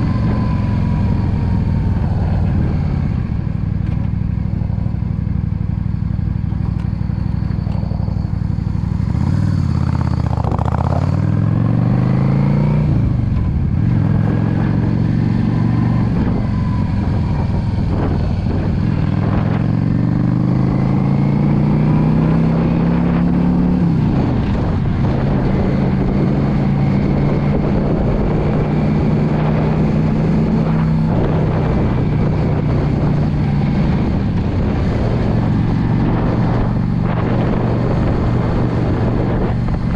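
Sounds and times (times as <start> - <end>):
wind noise on microphone: 0.0 - 5.6, 6.4 - 39.9
motorcycle engine accelerating: 0.0 - 39.9.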